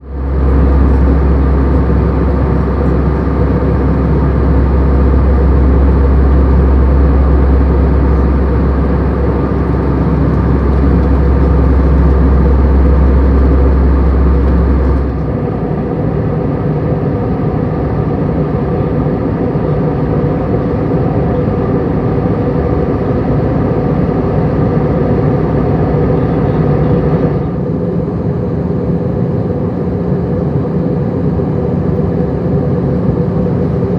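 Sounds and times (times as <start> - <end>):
airflow rush: 0.0 - 28.0
aircraft engine hum: 0.0 - 33.9
deep low rumble: 0.0 - 33.9.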